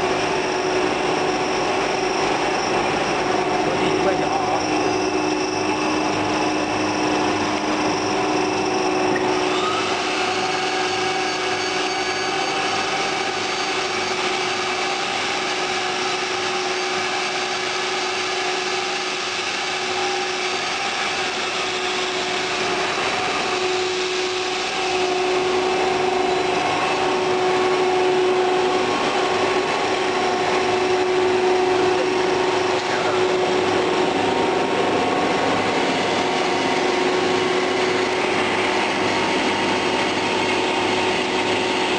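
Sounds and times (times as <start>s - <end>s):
rising whine: 0.0s - 41.9s.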